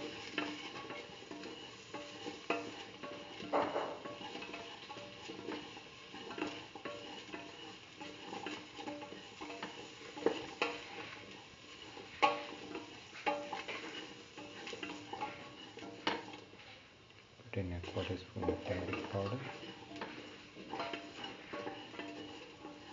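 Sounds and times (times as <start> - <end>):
utensil scraping steel pan: 0.0 - 16.8, 17.6 - 22.9
vegetables sizzling in oil: 0.0 - 22.9.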